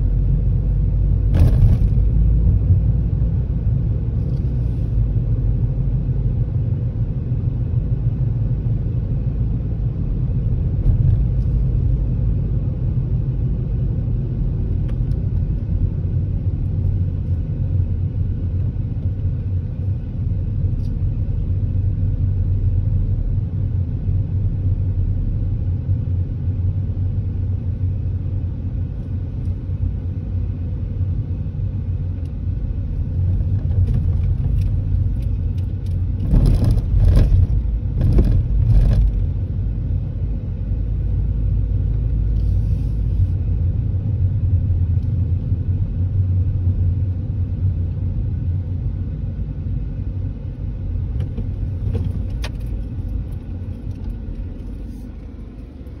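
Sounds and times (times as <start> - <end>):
car interior road noise: 0.0 - 56.0.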